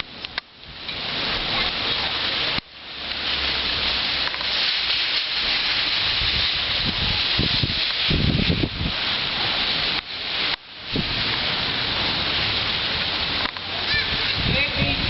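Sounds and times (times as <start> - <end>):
rain rushing: 0.0 - 15.0
wind gusts: 0.0 - 15.0.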